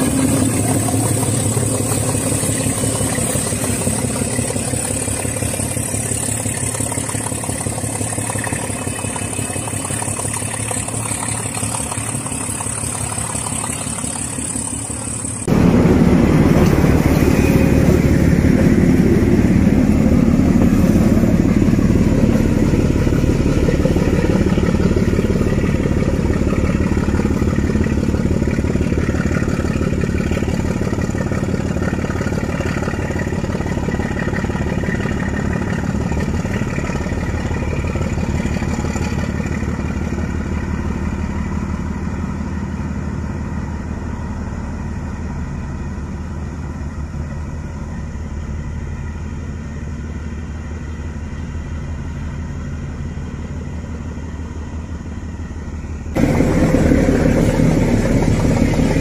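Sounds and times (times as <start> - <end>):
diesel locomotive engine throbbing: 0.0 - 59.0.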